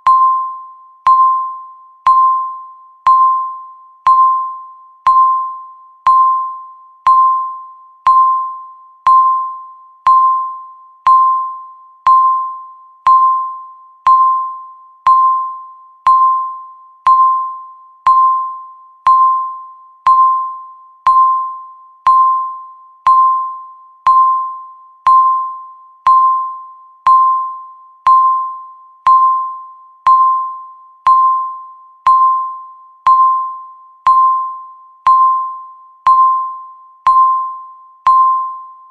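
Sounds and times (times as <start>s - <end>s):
electronic timer beeps: 0.0s - 38.9s.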